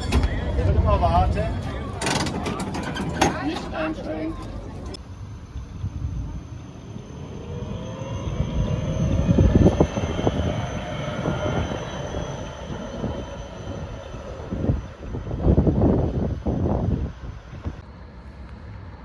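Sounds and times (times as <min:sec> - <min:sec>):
tram wheels clattering on rails: 0:00.0 - 0:07.4, 0:08.3 - 0:17.8.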